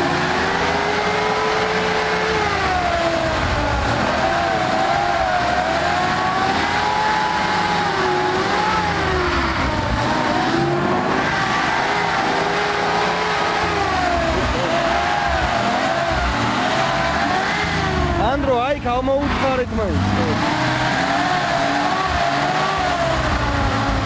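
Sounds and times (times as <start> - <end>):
engine revving hard: 0.0 - 24.0.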